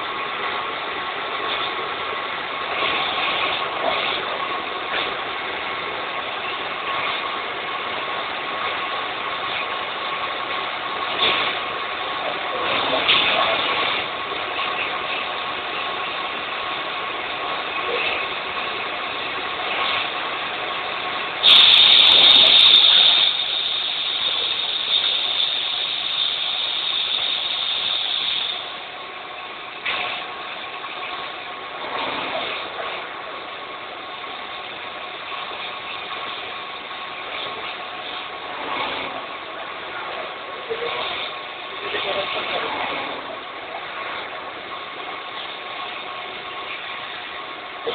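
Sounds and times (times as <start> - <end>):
faint steady whine: 0.0 - 47.9
lathe mechanical hum: 0.0 - 47.9
loud hiss: 0.0 - 47.9.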